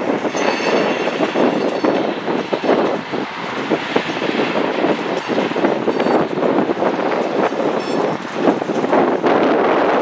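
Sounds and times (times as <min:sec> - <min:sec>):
train wheels rumbling on rails: 0:00.0 - 0:10.0
wheels clacking over rail joints: 0:00.0 - 0:10.0.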